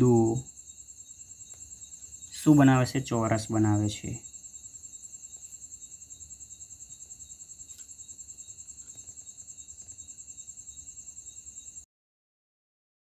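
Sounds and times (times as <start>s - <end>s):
crickets chirping: 0.0s - 11.9s.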